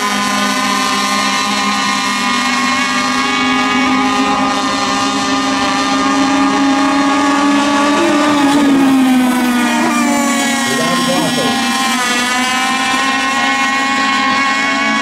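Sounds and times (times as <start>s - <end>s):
boat passing by: 0.0s - 15.0s
rc racing boats droning: 0.0s - 15.0s.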